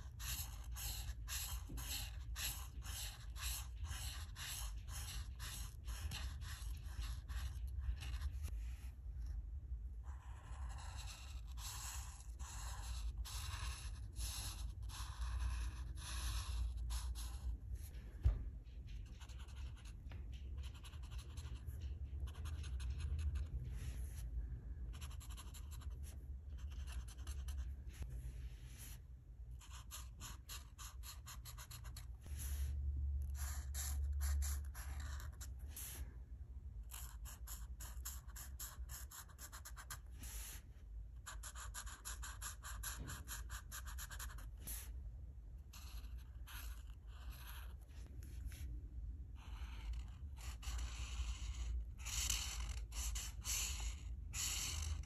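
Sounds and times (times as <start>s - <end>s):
marker scratching on paper: 0.0s - 9.4s, 10.0s - 29.0s, 29.6s - 36.1s, 36.8s - 45.0s, 45.6s - 55.0s.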